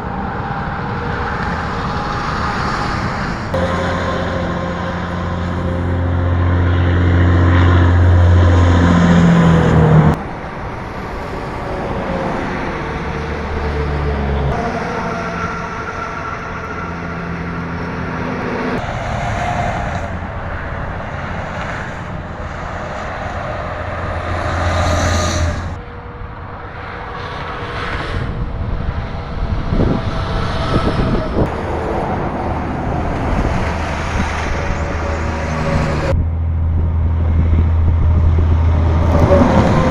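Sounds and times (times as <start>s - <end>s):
heavy trucks passing: 0.0s - 39.9s
traffic noise: 0.0s - 39.9s.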